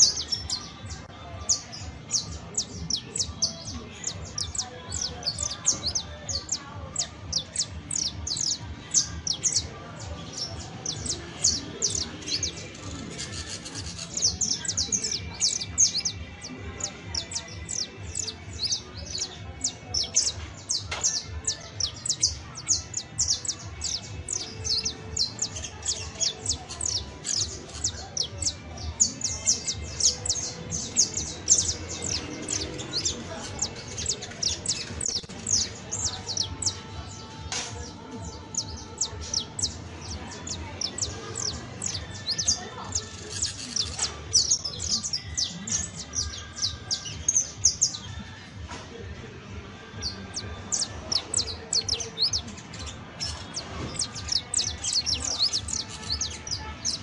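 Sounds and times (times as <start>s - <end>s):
finch singing high chirps: 0.0s - 48.6s, 49.9s - 57.0s.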